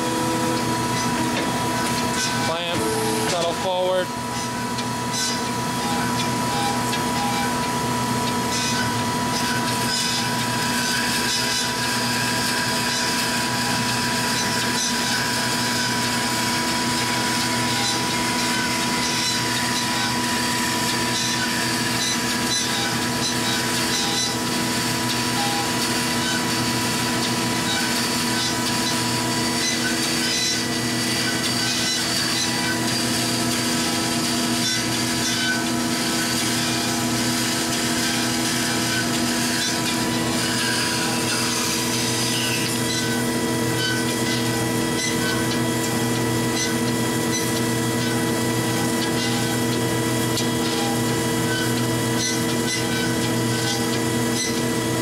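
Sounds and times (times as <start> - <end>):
band saw cutting metal: 0.0 - 55.0.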